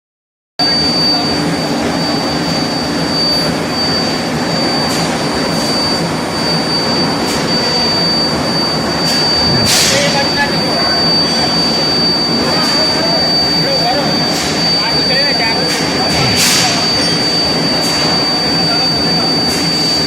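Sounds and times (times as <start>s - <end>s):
furnace machinery roaring: 0.6s - 20.0s
high-pitched whine: 0.6s - 20.0s.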